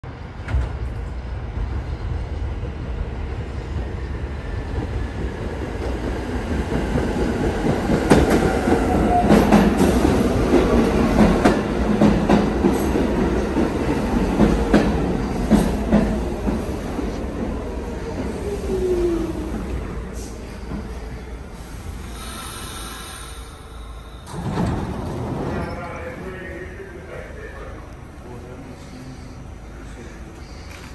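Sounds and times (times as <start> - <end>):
subway train rumbling: 0.0 - 30.9.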